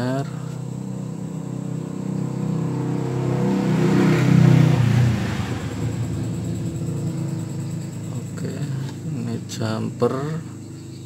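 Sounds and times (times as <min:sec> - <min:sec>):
passing vehicle engine hum: 0:00.0 - 0:10.9.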